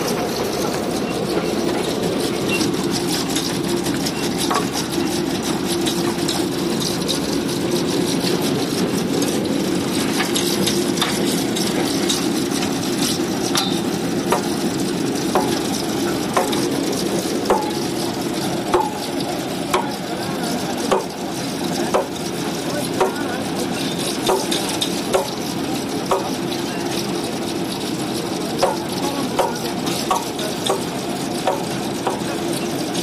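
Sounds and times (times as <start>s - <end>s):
drilling rig droning and rattling: 0.0s - 33.0s.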